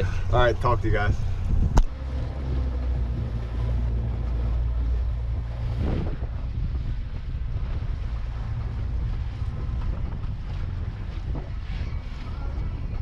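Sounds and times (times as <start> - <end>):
outboard motor droning: 0.0 - 13.0
wind buffeting microphone: 0.0 - 13.0.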